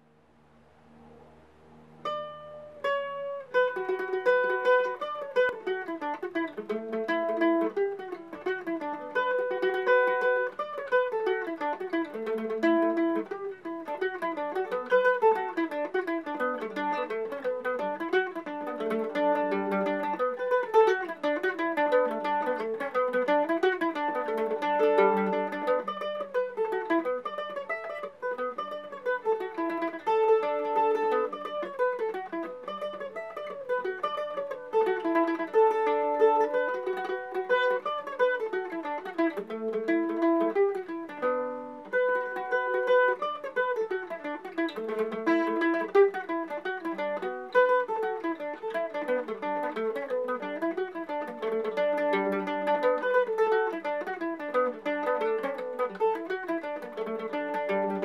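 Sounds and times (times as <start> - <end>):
mandolin melody: 0.0 - 58.0.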